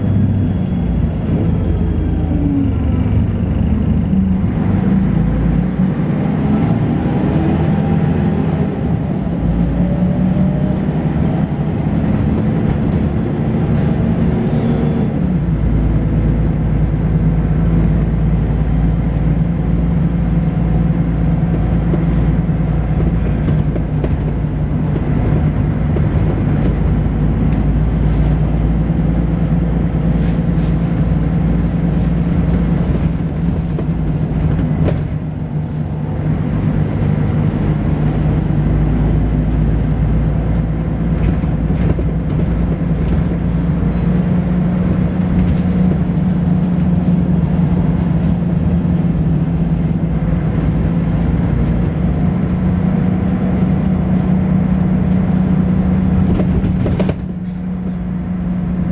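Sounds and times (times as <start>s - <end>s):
bus diesel engine under way: 0.0s - 58.9s.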